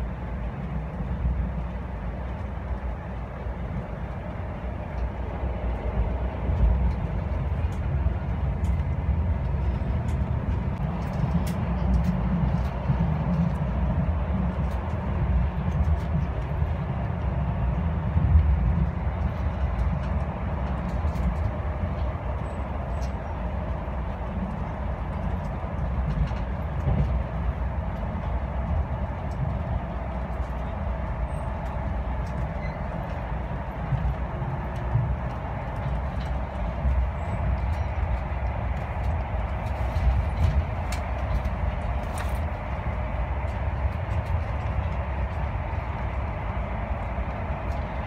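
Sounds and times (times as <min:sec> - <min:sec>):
train cabin rumble: 0:00.0 - 0:48.0.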